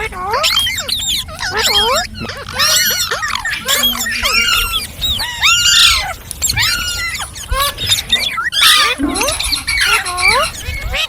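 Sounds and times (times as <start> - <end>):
parrots calling shrilly: 0.0 - 11.0.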